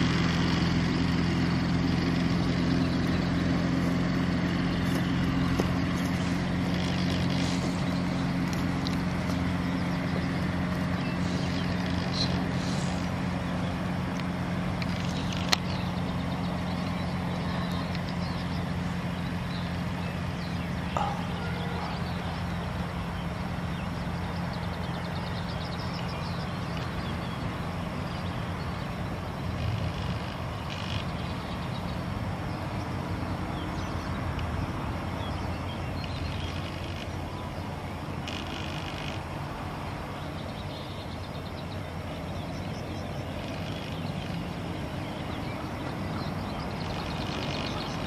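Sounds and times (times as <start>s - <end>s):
low engine hum: 0.0s - 48.0s.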